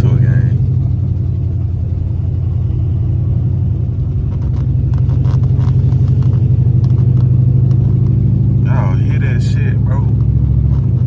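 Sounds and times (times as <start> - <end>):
car engine rough rumble: 0.0 - 11.0.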